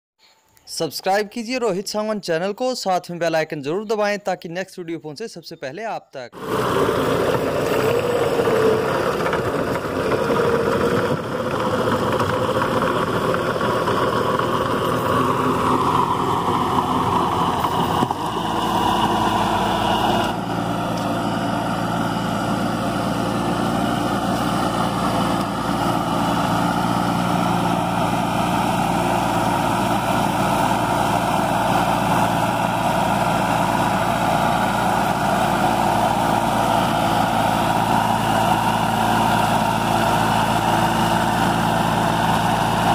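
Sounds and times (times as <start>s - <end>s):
tractor diesel engine running: 6.4s - 42.9s.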